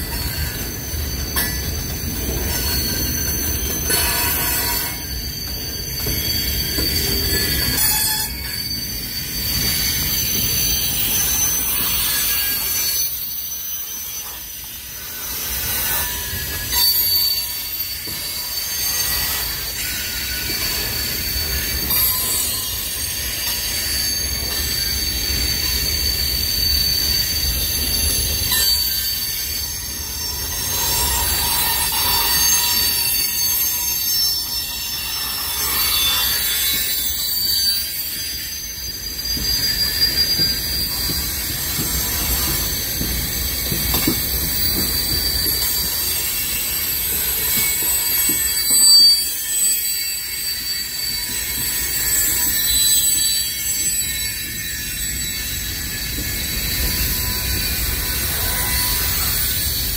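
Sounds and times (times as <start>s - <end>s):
high wheel squeal: 0.0s - 59.9s
steel wheels rumbling on rail: 0.0s - 59.9s.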